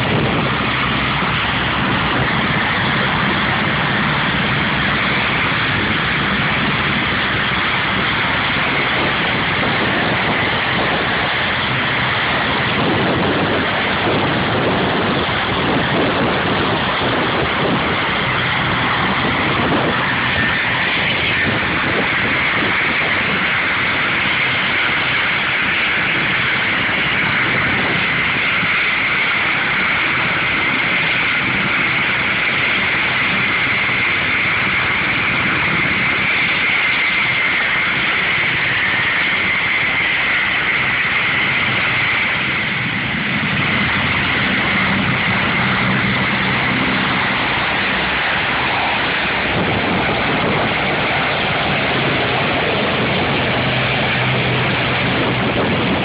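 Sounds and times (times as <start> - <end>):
helicopter rotors rushing: 0.0 - 56.0
high turbine whine: 0.0 - 56.0.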